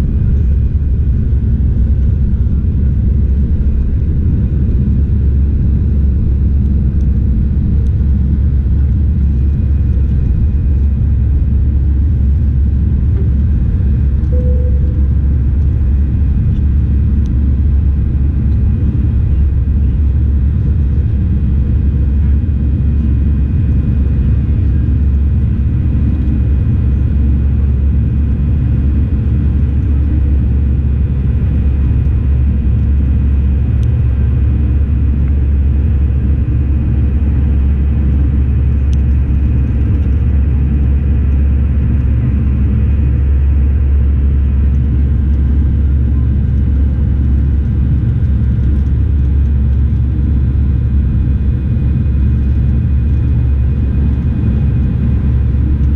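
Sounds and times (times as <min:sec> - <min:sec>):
airliner rumble: 0:00.0 - 0:55.9.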